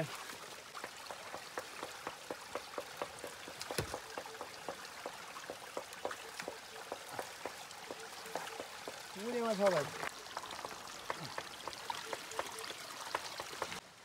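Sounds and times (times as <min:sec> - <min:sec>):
water drips and plinks: 0:00.0 - 0:13.8
stream trickling over stones: 0:00.0 - 0:14.0.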